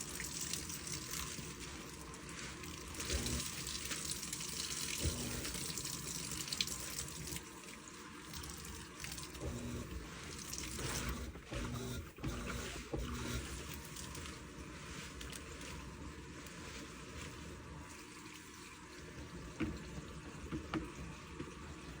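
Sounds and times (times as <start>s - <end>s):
water sloshing in washing machine: 0.0s - 22.0s.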